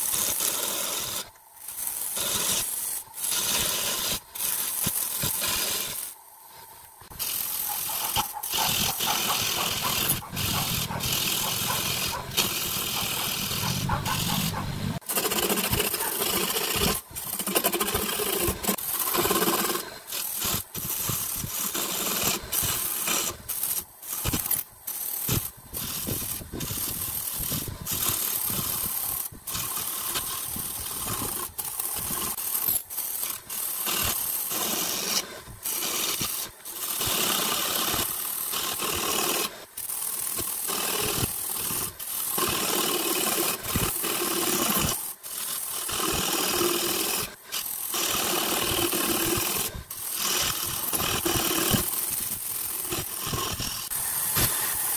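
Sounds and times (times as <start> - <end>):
wood lathe tool scraping wood: 0.0 - 54.9.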